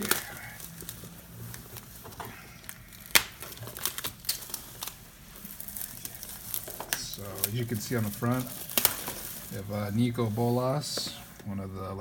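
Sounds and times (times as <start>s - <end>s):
plastic wrap crinkling and tearing: 0.0s - 11.6s.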